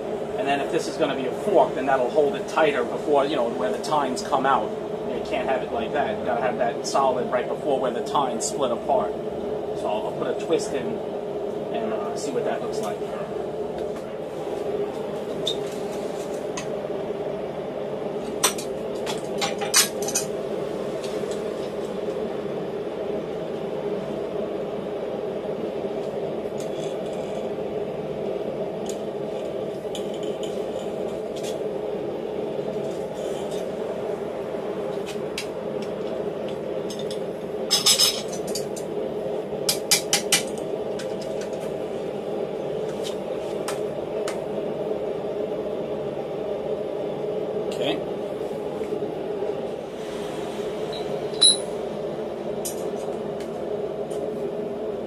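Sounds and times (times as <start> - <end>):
steady background drone: 0.0 - 55.0.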